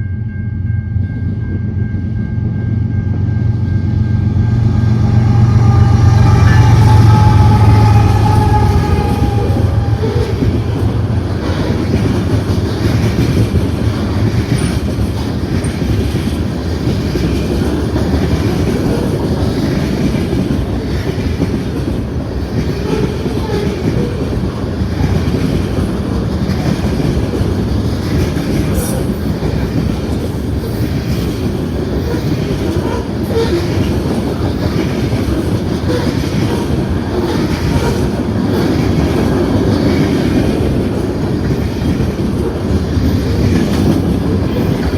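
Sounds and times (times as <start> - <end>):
freight train rumbling: 0.0 - 44.9
steel wheels clattering over rail joints: 5.2 - 44.9.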